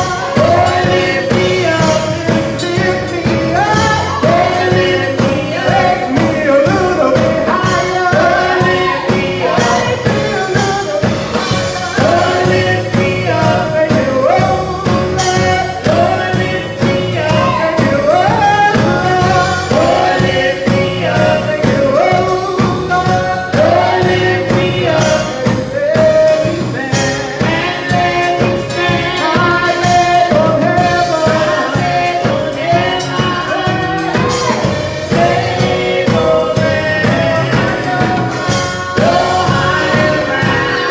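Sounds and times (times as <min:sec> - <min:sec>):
gospel choir singing with instruments: 0:00.0 - 0:40.9.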